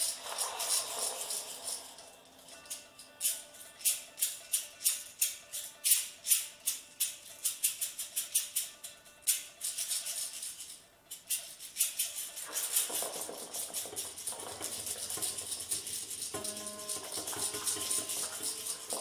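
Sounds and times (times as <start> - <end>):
fast dry rattling shake: 0.0 - 8.7, 9.3 - 19.0.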